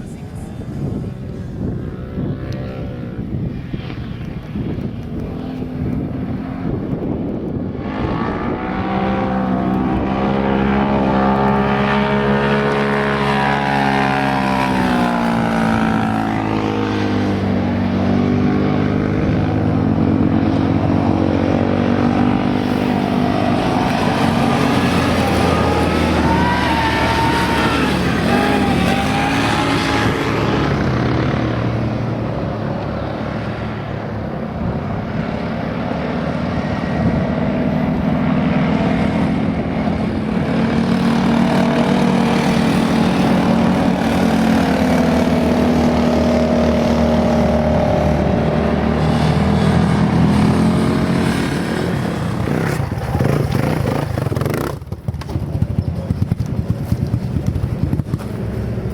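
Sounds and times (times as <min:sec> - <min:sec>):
atv engines revving: 0:00.0 - 0:58.9.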